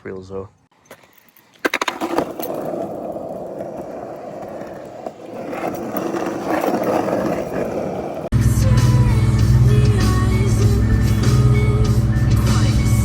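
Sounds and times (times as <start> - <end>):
skateboard wheels rolling on pavement: 0.7 - 11.9.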